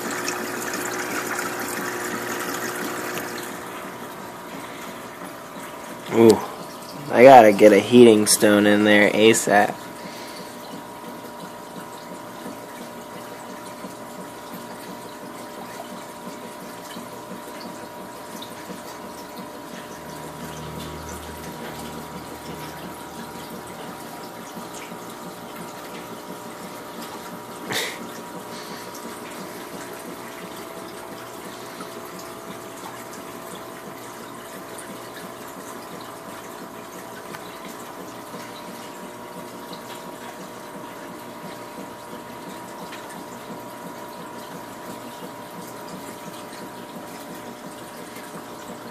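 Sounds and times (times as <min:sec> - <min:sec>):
filter motor hum: 0:00.0 - 0:48.9
water trickling and splashing: 0:00.0 - 0:48.9.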